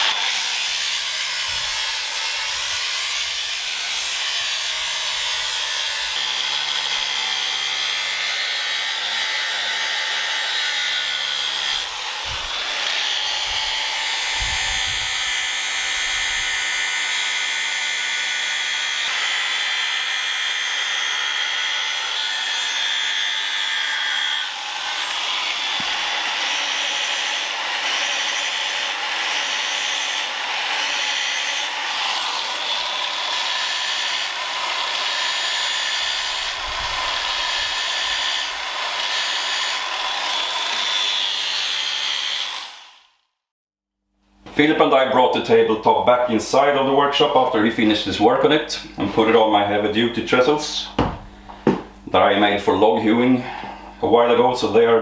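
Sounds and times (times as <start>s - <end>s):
power tool cutting wood: 0.0s - 43.3s, 44.4s - 55.0s.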